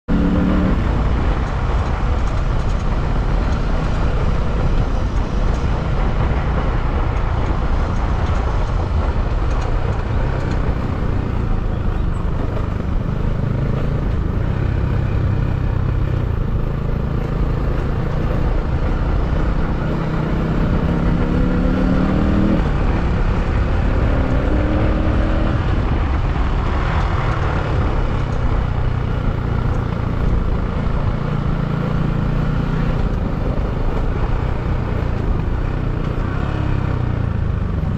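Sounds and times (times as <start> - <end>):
motorcycle engine accelerating: 0.1 - 37.9.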